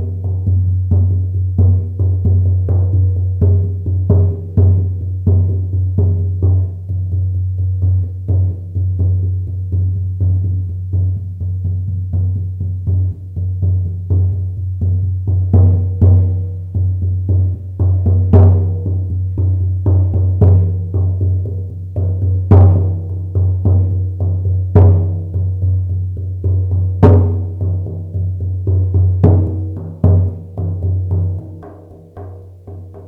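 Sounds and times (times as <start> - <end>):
frame drum beaten: 0.0 - 33.0.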